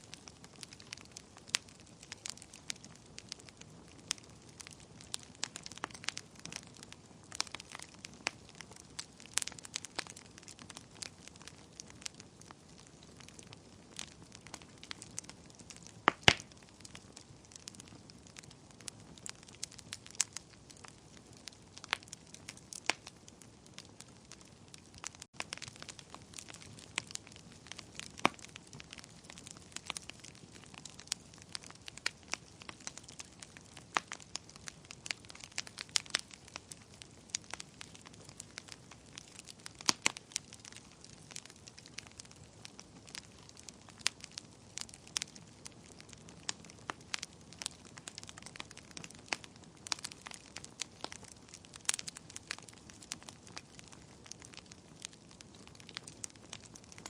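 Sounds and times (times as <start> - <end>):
faint steady hiss: 0.0 - 48.6
wood fire crackling and popping: 0.0 - 57.0.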